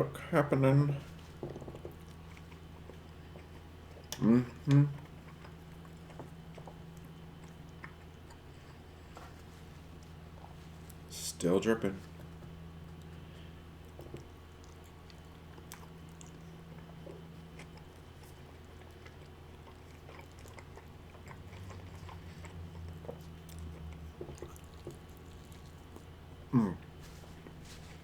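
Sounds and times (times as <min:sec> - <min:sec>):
person chewing: 0:01.1 - 0:11.1, 0:12.1 - 0:28.0.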